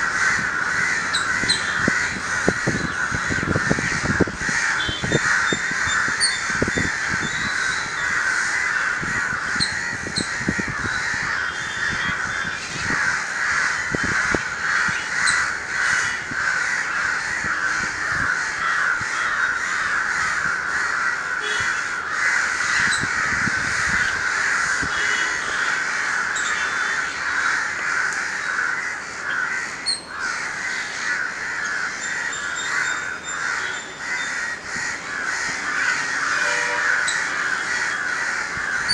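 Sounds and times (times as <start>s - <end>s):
crows cawing: 0.0s - 38.9s.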